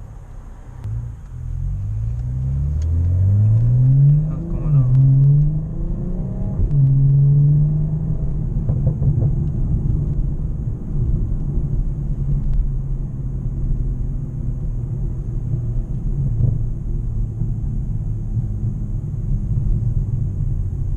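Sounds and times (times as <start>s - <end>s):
car engine accelerating: 0.0s - 20.9s.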